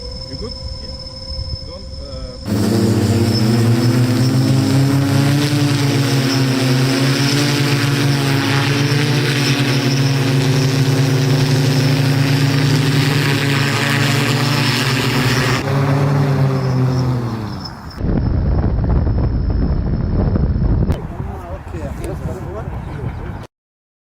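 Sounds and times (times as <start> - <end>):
propellers droning: 0.0 - 23.5.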